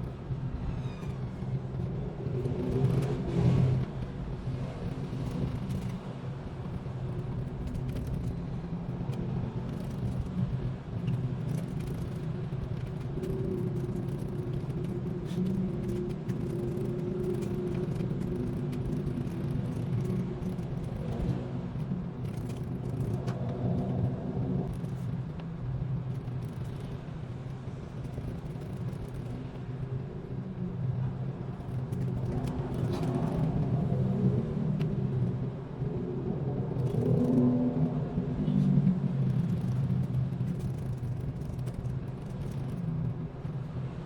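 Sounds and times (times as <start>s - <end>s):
low steady rumble: 0.0s - 44.0s.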